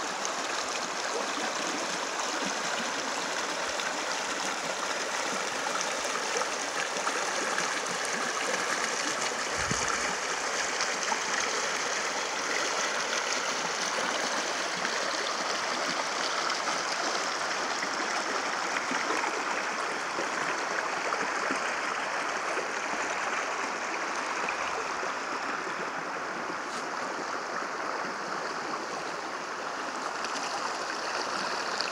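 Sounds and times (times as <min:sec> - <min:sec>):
river water flowing over gravel: 0:00.0 - 0:31.9.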